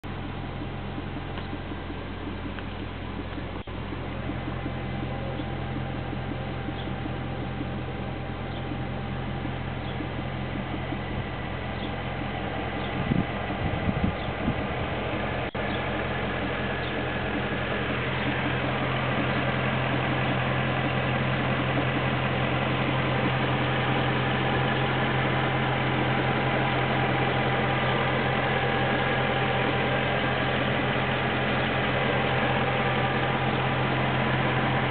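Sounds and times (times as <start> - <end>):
car engine idling: 0.0 - 34.9
engine knocking: 0.0 - 34.9.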